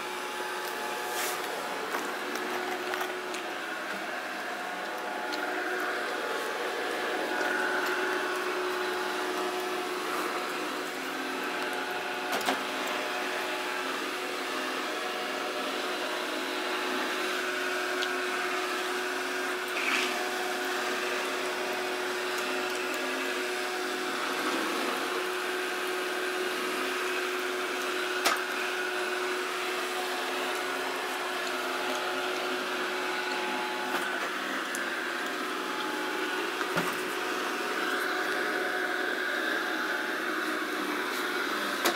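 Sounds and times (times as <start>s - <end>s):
robot vacuum motor hum: 0.1s - 41.9s.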